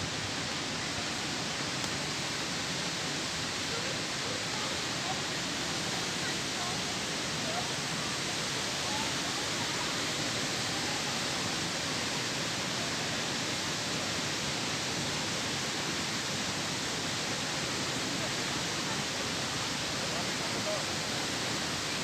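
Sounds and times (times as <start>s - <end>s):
water rushing down spillway: 0.0s - 22.0s.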